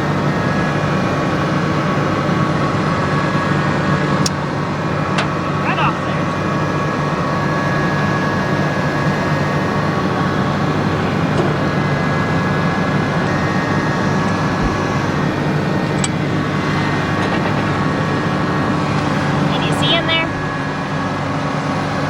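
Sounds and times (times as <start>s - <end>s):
faint steady whine: 0.0s - 22.0s
tractor engine running: 0.0s - 22.0s.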